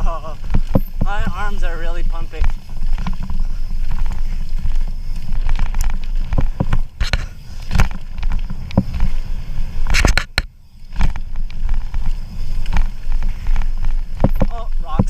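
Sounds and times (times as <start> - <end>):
bike rattling over bumps: 0.0 - 15.0
rumble of wind and tyres: 0.0 - 15.0.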